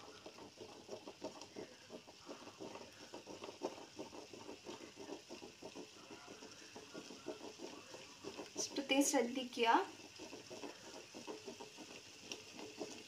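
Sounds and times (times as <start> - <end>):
egg sizzling in oil: 0.0 - 13.0
stirring scraping in pot: 0.0 - 13.0.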